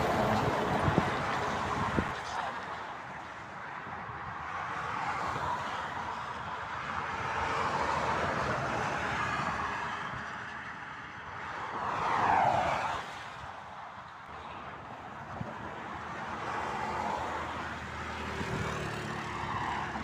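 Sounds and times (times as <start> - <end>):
motorway traffic passing: 0.0 - 20.0.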